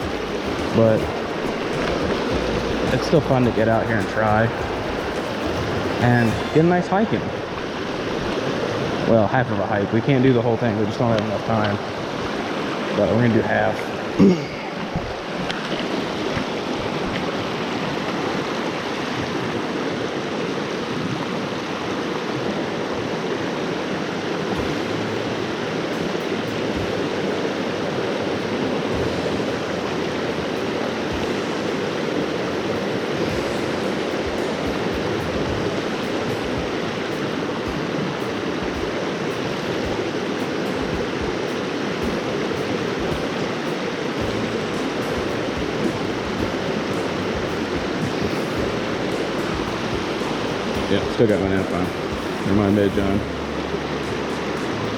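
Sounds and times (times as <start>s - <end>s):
creek rushing over rocks: 0.0s - 54.9s.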